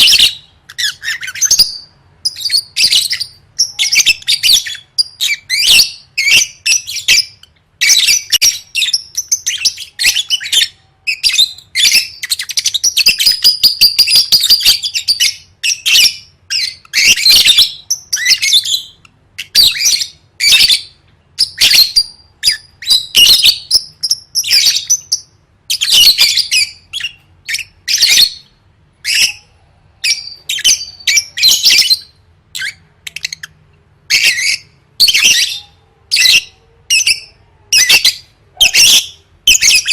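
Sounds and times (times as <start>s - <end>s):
lovebird chirping and squawking: 0.0s - 39.9s.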